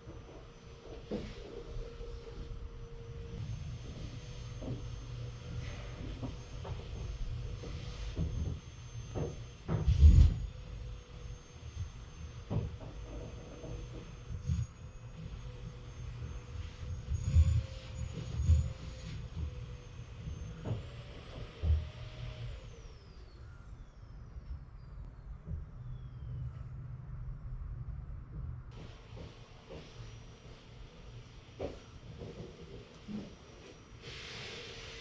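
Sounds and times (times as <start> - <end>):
muffled vacuum cleaner hum: 0.0 - 35.0.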